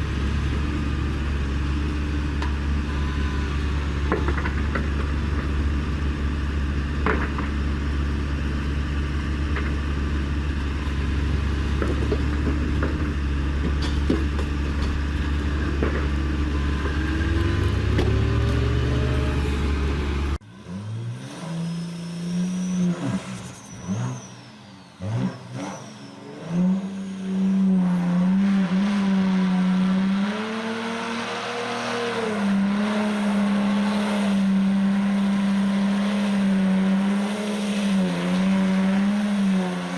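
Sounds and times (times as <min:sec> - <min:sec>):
vehicle engine humming: 0:00.0 - 0:21.0, 0:21.7 - 0:39.9
engine revving: 0:00.0 - 0:39.9.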